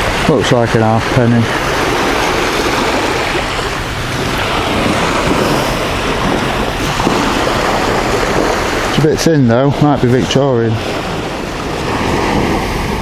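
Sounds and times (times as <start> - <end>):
sea surf washing on beach: 0.0 - 13.0
wind on microphone: 0.0 - 13.0.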